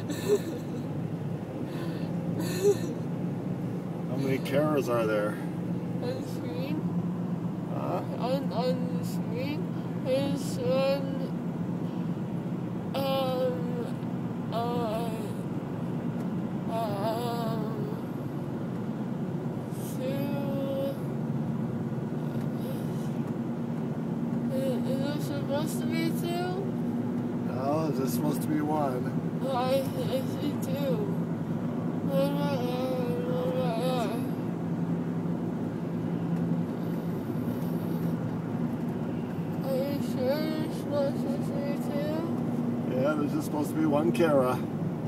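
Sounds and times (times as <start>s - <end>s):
car cabin road and engine rumble: 0.0s - 45.0s.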